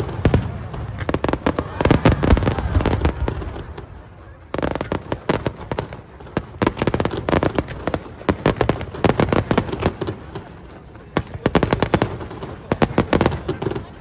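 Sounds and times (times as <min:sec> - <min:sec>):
fireworks cracks and pops: 0:00.0 - 0:14.0.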